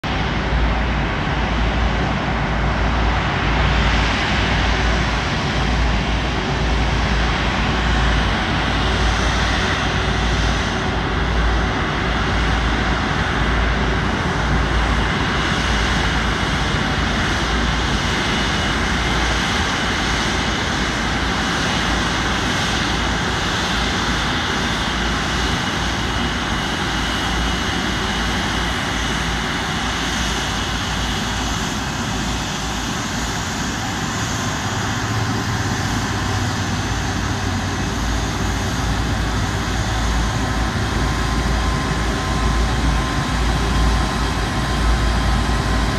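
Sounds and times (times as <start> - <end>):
jet engines whining and rumbling: 0.0 - 45.9.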